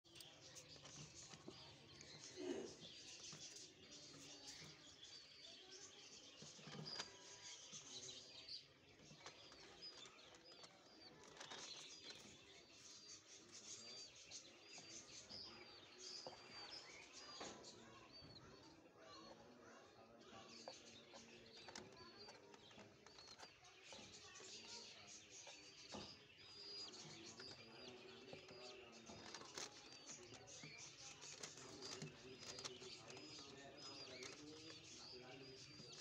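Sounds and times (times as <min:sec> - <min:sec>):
bird chirping: 0:00.0 - 0:36.0.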